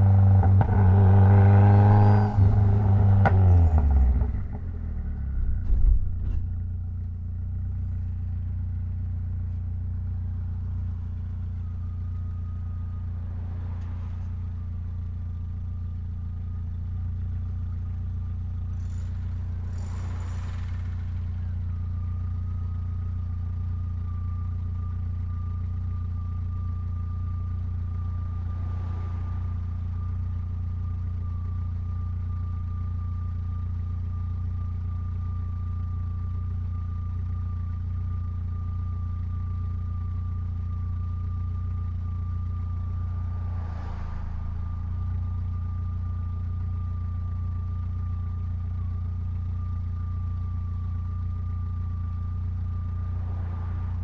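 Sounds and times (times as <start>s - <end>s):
car engine running steadily: 0.0s - 54.0s
high engine whine: 0.0s - 54.0s.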